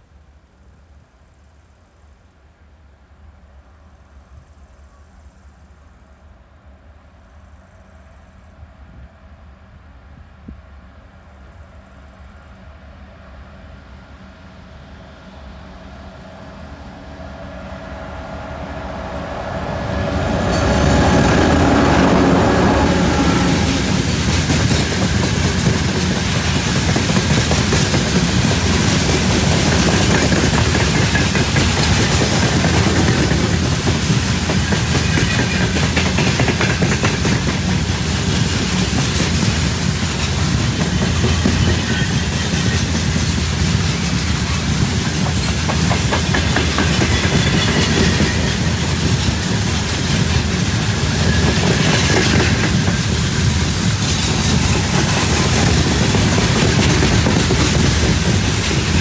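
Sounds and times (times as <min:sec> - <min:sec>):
diesel locomotive engines: 0:00.0 - 0:59.0
train wheels on rails: 0:03.2 - 0:59.0.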